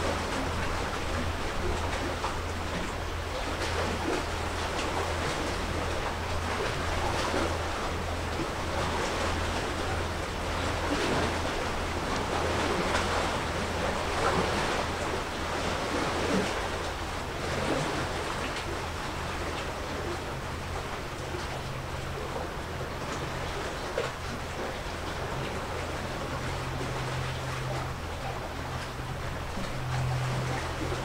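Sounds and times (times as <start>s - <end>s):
steady low hum: 0.0s - 31.0s
waves washing on shore: 0.0s - 31.0s.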